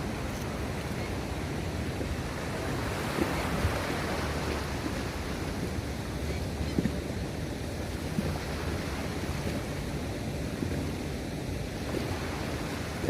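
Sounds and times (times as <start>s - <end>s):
sea water washing at shore: 0.0s - 13.0s.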